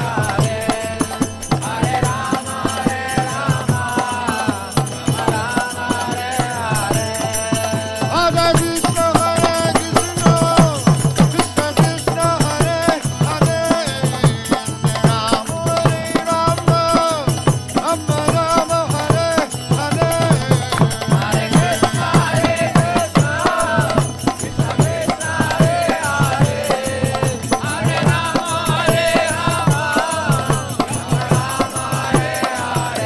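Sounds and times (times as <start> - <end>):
quick steady drum beat: 0.0 - 33.0
voices singing a devotional chant: 0.0 - 33.0.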